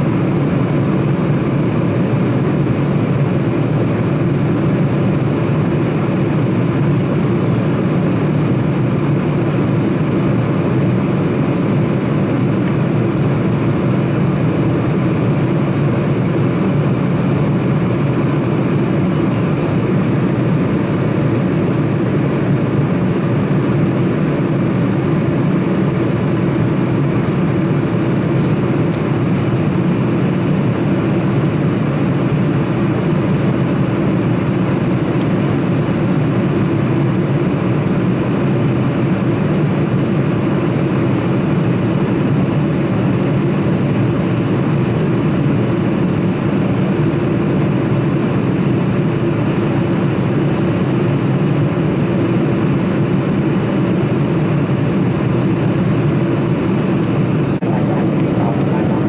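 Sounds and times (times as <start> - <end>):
airliner cabin noise: 0.0 - 59.0.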